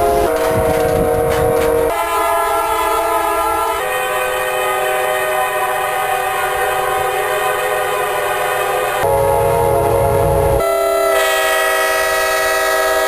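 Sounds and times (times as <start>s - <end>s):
locomotive air horn chord: 0.0s - 13.0s.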